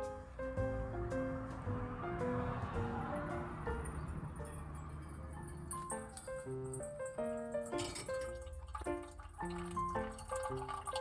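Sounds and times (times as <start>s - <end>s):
light melody background music: 0.0s - 11.0s.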